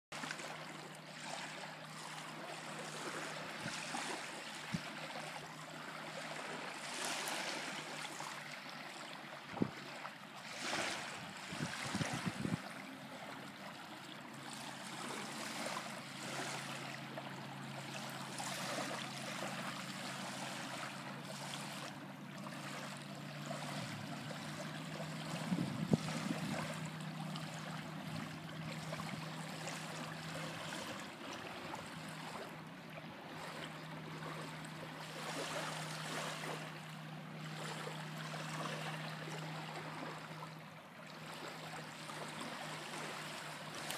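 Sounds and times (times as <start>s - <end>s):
small waves lapping on shore: 0.1s - 43.9s.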